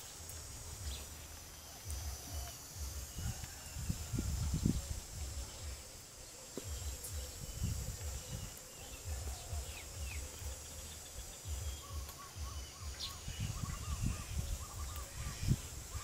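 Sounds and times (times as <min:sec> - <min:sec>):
faint bird chirps: 0:00.0 - 0:16.0
high insect hum: 0:00.0 - 0:16.0
wind buffeting microphone: 0:01.8 - 0:06.0, 0:06.6 - 0:10.7, 0:11.3 - 0:16.0.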